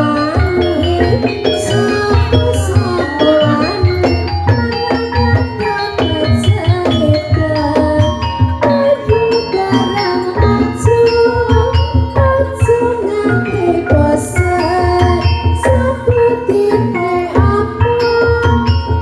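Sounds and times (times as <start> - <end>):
hand drum rhythm: 0.0 - 19.0
metallophone interlocking melodies: 0.0 - 19.0.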